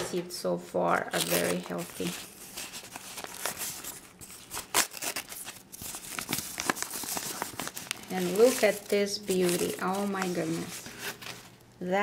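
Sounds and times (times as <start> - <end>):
paper crinkling and tearing: 1.0 - 11.6.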